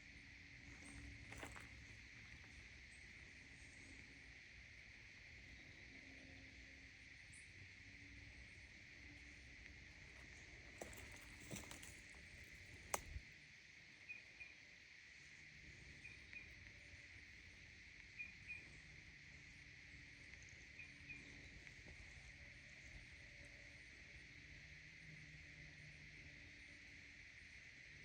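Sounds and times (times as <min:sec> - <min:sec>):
insect chorus drone: 0:00.0 - 0:28.0.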